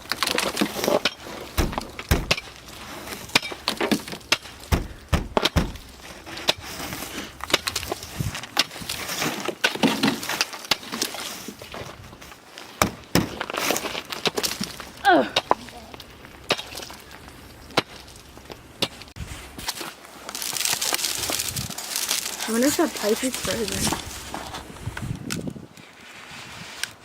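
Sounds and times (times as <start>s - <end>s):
ice cracking under hand tool: 0.0s - 24.6s
ice crunching and splintering: 0.0s - 25.6s.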